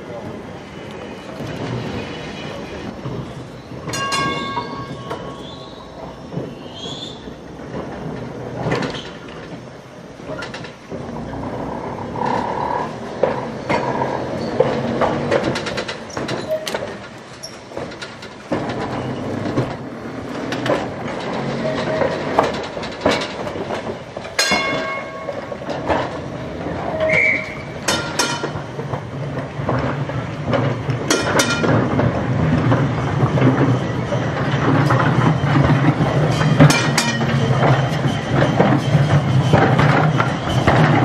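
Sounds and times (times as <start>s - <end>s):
tram rumbling: 0.0s - 41.0s
wheels clicking over rail joints: 0.0s - 41.0s
wheels squealing on rails: 0.0s - 41.0s.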